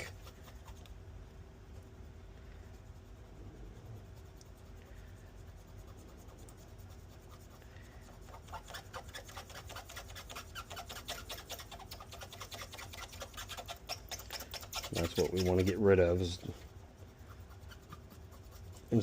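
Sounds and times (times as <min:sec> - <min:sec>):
light scrubbing strokes on metal: 0:00.0 - 0:01.0, 0:01.7 - 0:19.0
faint steady hum: 0:00.0 - 0:19.0.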